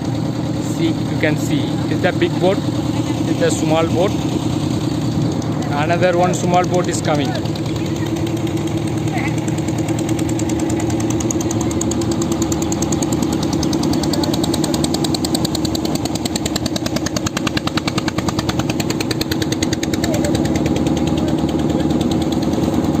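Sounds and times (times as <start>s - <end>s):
motorboat engine knocking: 0.0s - 23.0s.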